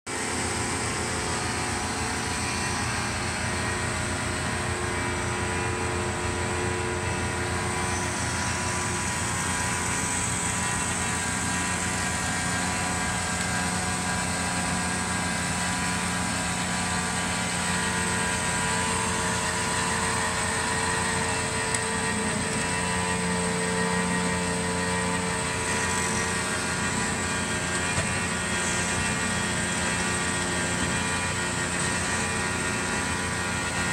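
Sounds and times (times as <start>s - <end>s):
bandsaw running: 0.1s - 33.9s.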